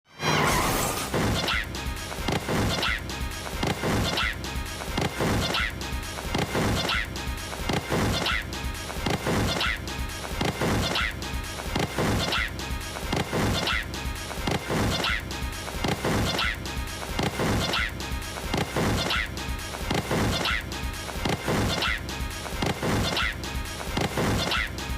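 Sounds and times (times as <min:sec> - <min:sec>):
music with steady beat: 0:01.6 - 0:24.9.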